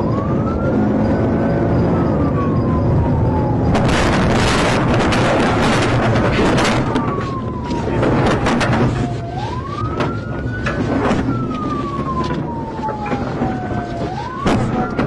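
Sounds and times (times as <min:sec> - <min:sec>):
siren wailing: 0:00.0 - 0:15.0
steady low rumble: 0:00.0 - 0:15.0.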